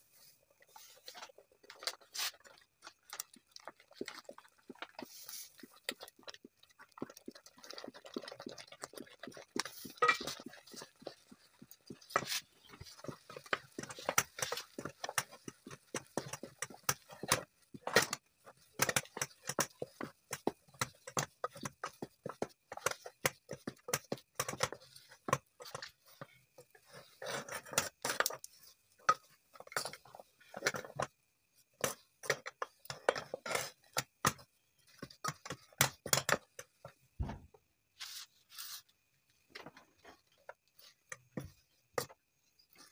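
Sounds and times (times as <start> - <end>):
wooden spatula scraping a metal pot: 0.2 - 6.1, 6.8 - 36.9.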